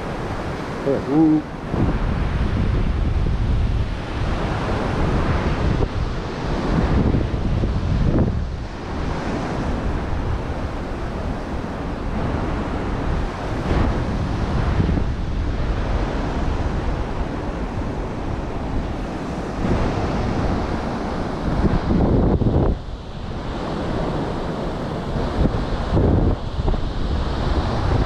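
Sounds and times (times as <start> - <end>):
surf breaking on sandy beach: 0.0 - 28.0
wind rumbling on microphone: 0.0 - 28.0.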